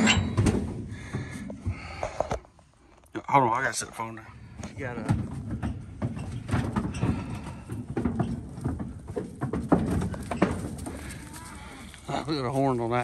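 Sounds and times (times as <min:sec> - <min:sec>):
cattle hooves on trailer floor: 0:00.0 - 0:02.0, 0:04.0 - 0:13.0.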